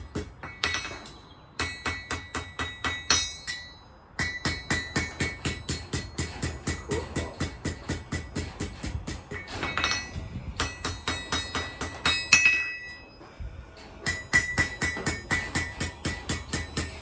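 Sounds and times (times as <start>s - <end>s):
hammer striking steel on anvil: 0.0s - 13.2s, 13.8s - 17.0s.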